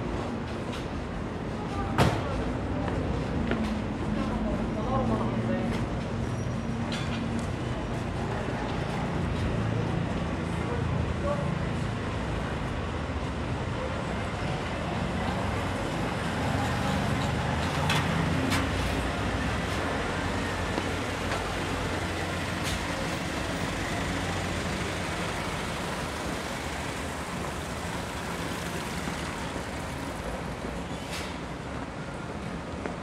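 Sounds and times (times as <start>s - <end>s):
road noise: 0.0s - 33.0s
vehicle engine rumble: 0.0s - 33.0s.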